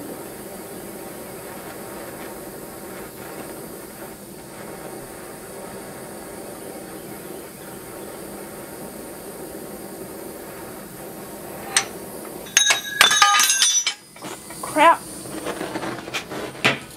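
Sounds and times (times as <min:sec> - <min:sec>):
gas torch flame hissing: 0:00.0 - 0:16.9.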